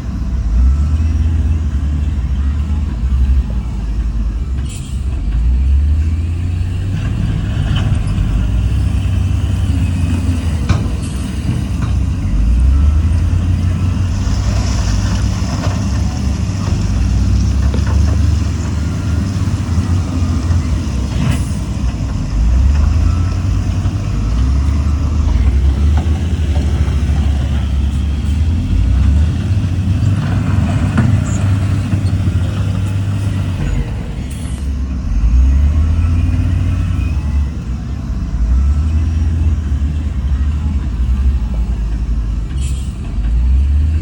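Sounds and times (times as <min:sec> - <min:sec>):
diesel engine rumble: 0:00.0 - 0:44.0.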